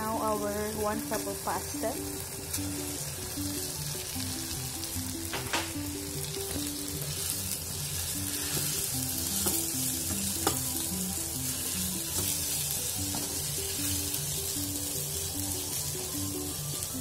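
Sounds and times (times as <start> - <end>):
sauce sizzling in a frying pan: 0.0 - 17.0
simple background melody: 0.0 - 17.0.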